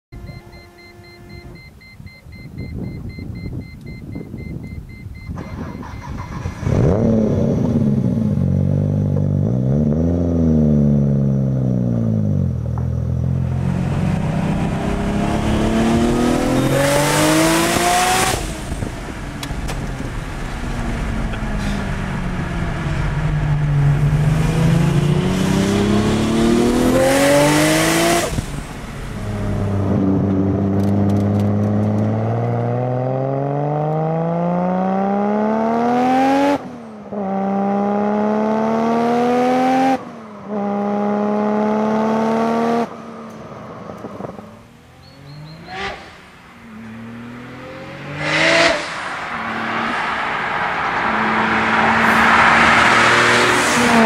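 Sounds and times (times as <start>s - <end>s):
car engine revving: 5.4s - 43.0s, 43.7s - 54.0s.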